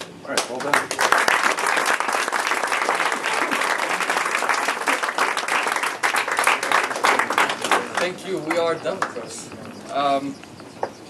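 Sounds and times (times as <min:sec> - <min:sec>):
audience applauding: 0:00.3 - 0:09.4.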